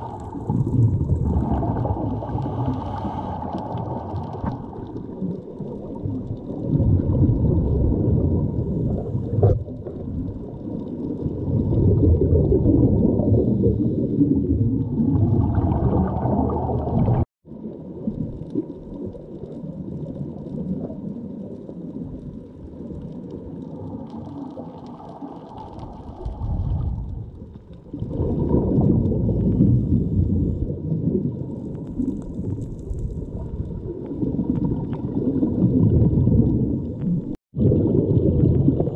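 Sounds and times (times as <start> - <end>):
muffled underwater water rush: 0.0 - 38.9.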